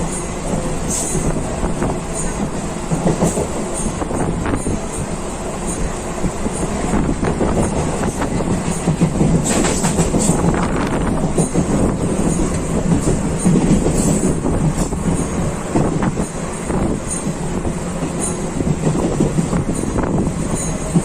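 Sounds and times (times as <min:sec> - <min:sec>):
clacks over rail joints: 0:00.0 - 0:21.0
train wheels rumbling on track: 0:00.0 - 0:21.0.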